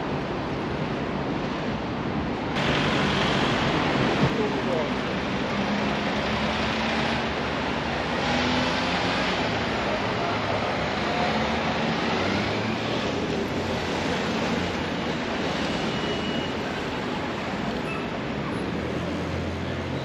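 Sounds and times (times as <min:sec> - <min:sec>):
cars and vans driving past: 0:02.5 - 0:20.0.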